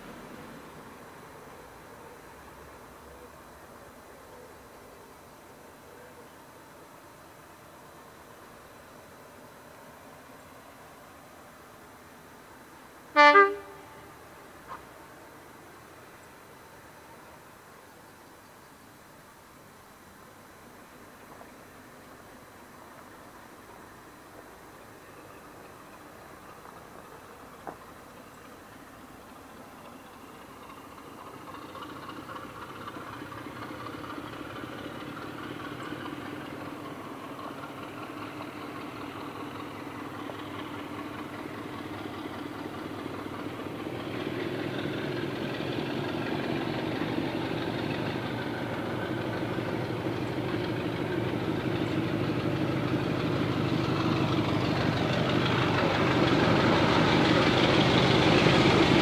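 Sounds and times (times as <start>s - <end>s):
diesel locomotive engine running: 0.0s - 59.0s.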